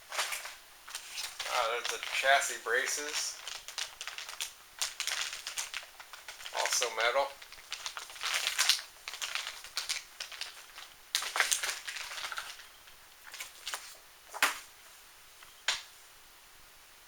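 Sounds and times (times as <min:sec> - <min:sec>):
plastic packaging crinkling: 0:00.1 - 0:14.7.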